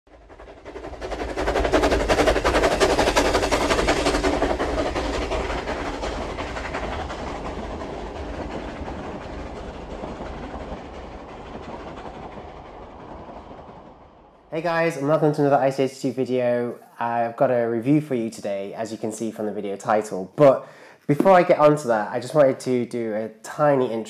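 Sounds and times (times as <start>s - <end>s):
steam train rhythmic clatter: 0.1s - 24.0s.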